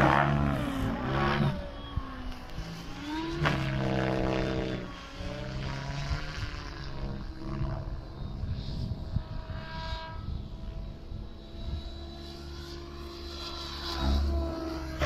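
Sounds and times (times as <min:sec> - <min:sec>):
rc helicopter motor whine: 0:00.0 - 0:15.0
wind rumble on microphone: 0:00.0 - 0:15.0.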